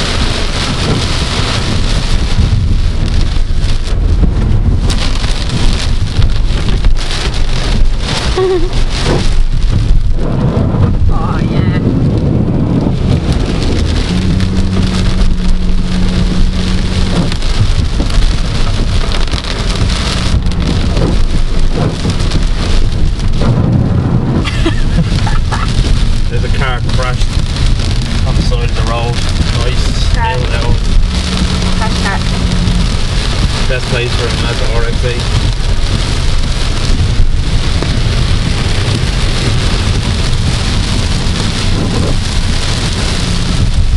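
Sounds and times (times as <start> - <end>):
heavy rain on car roof: 0.0 - 43.9
road rumble: 0.0 - 43.9.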